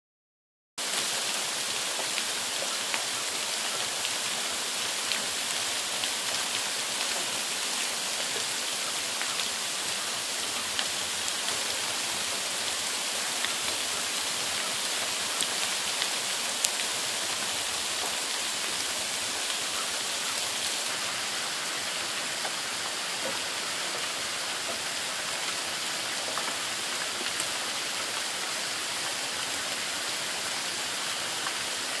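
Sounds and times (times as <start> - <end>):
rain hissing on ground: 0.8 - 32.0.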